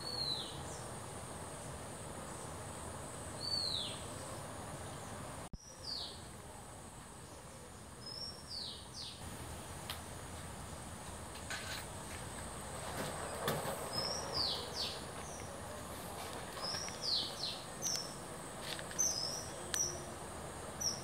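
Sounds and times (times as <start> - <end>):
insects humming: 0.0 - 21.0.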